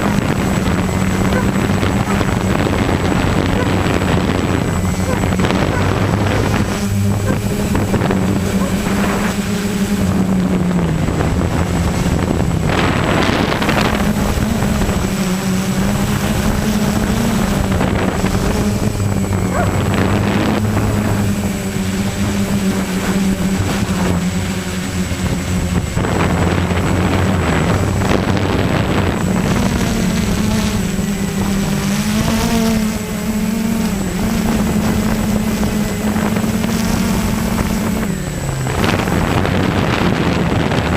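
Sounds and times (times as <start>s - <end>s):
motor droning: 0.0s - 40.9s
rushes of noise: 0.0s - 40.9s.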